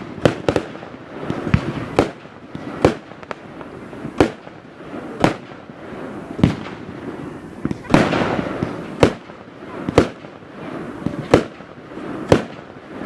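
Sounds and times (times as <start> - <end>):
fireworks bangs: 0.0 - 13.0
steady background hiss: 0.0 - 13.0.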